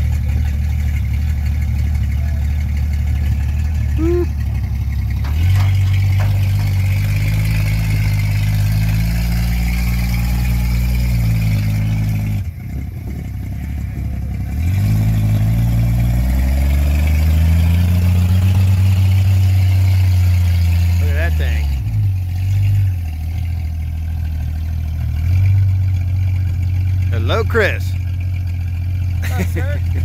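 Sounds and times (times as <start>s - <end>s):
snowcat engine running: 0.0s - 30.0s.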